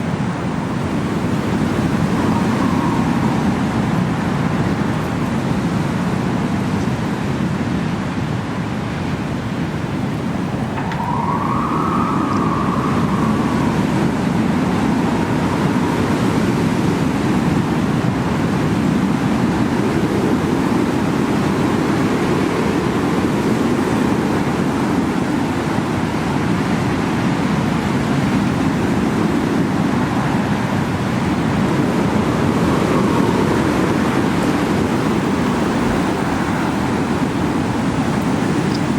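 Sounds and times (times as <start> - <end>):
strong wind buffeting microphone: 0.0 - 38.9.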